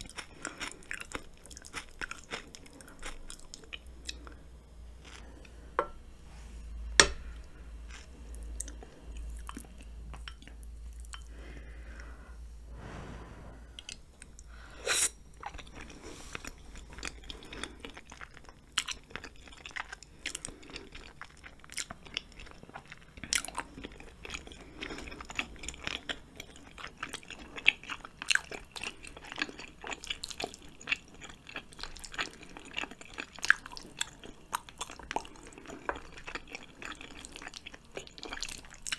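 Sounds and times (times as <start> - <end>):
chewing and eating noodles: 0.0 - 5.6, 7.9 - 12.0, 15.2 - 38.9.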